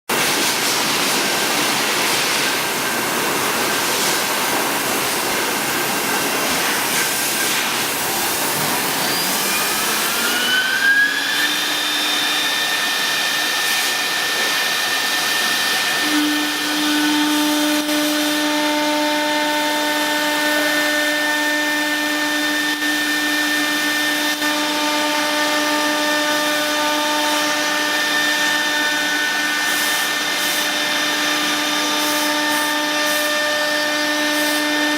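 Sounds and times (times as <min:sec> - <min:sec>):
router spindle whining: 0:05.5 - 0:34.9.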